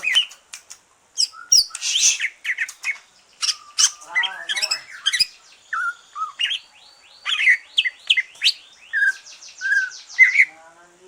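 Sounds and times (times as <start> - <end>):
bird singing chirps and whistles: 1.2 - 10.5.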